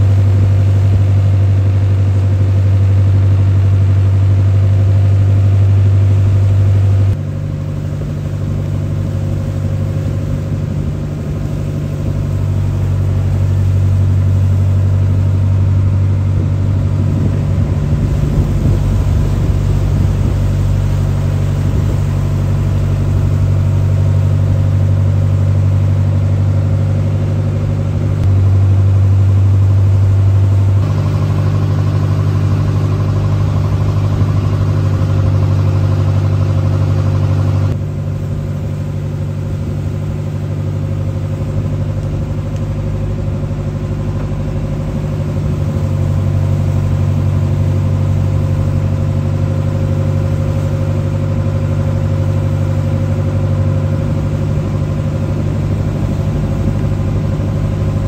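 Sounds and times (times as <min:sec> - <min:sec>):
boat engine droning: 0:00.0 - 0:58.0
water and wind rushing: 0:00.0 - 0:58.0.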